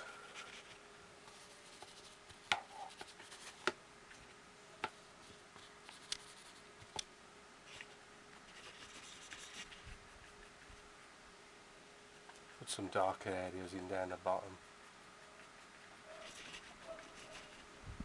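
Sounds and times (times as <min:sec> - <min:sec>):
brush scratching softly: 0:00.0 - 0:04.3, 0:04.9 - 0:07.0, 0:07.6 - 0:11.1, 0:12.0 - 0:17.8.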